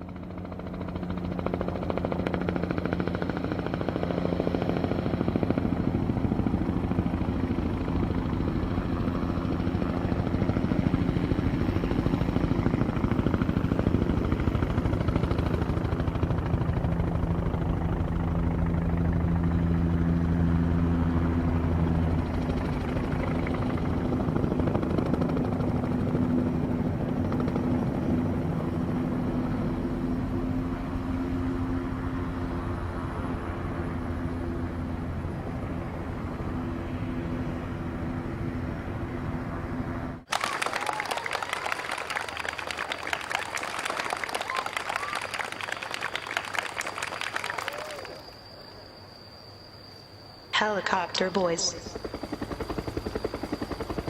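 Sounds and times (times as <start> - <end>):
helicopter engine hum: 0.0 - 40.3, 50.2 - 54.0
helicopter rotor beat: 0.0 - 49.6, 50.3 - 54.0.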